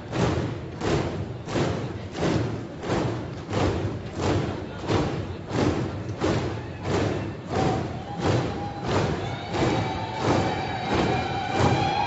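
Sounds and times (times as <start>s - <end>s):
slow marching drum beat: 0.0s - 12.0s.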